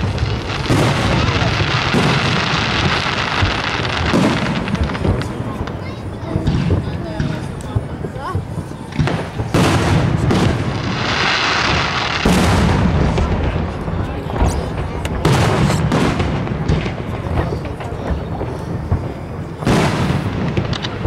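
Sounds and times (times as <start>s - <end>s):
dense background noise: 0.0s - 21.0s
fireworks booming: 0.0s - 21.0s.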